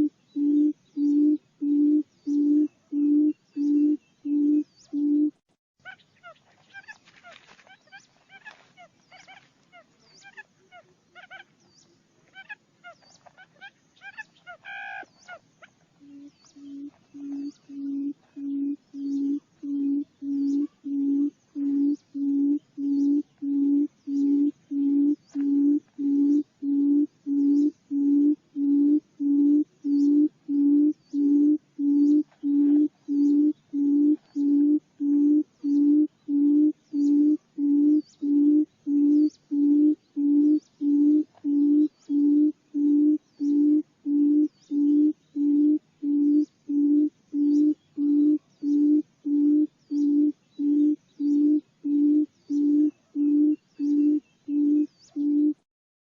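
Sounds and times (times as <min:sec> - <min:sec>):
bird low hoots: 0:00.0 - 0:11.6, 0:12.2 - 0:55.6
faint high chirps: 0:07.8 - 0:55.6.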